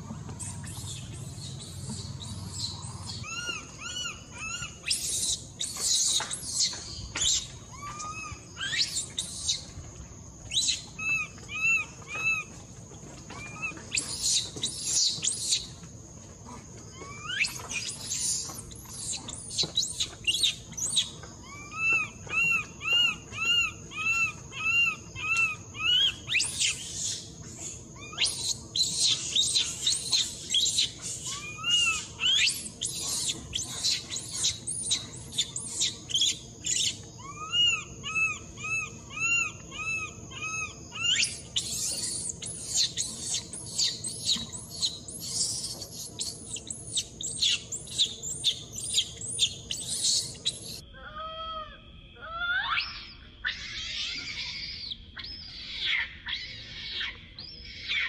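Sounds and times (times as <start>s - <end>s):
baby monkey screaming and crying: 0.4s - 9.8s, 10.4s - 12.6s, 13.2s - 15.8s, 16.8s - 58.0s.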